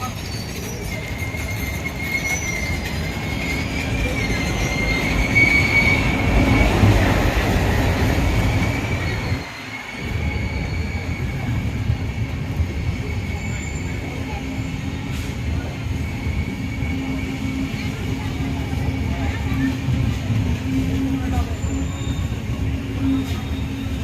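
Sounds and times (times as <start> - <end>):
high wheel squeal: 0.0 - 24.0
train rumbling on rails: 0.0 - 24.0.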